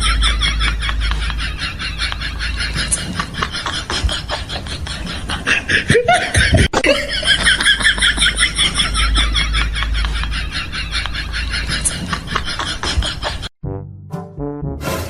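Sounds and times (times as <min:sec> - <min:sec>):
person laughing hard: 0:00.0 - 0:13.5.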